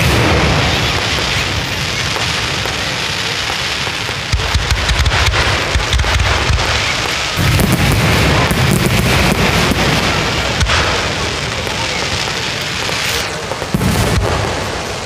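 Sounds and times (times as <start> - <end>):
fireworks crackle: 0.0 - 15.0
sharp fireworks bangs: 0.0 - 15.0.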